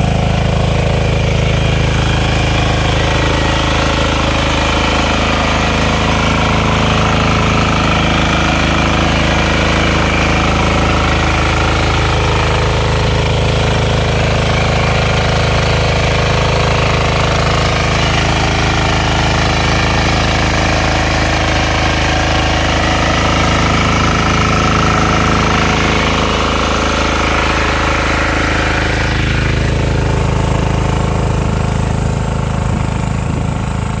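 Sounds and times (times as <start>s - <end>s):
power tiller engine running: 0.0s - 34.0s.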